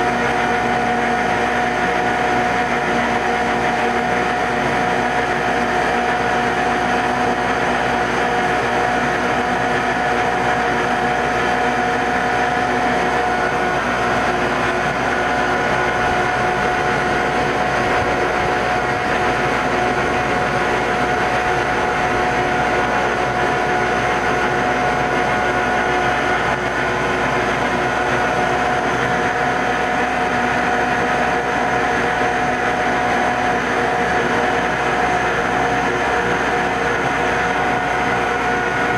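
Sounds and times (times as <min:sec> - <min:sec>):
steady machine whine: 0:00.0 - 0:38.9.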